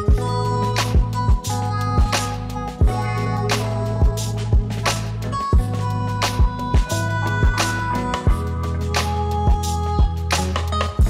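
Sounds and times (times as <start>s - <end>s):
background music: 0.0s - 11.0s
held bass line: 0.0s - 11.0s.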